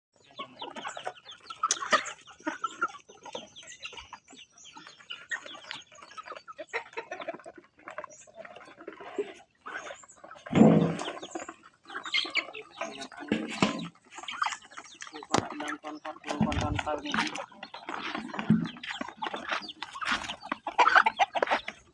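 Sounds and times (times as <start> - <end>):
chickens clucking: 0.2 - 21.9.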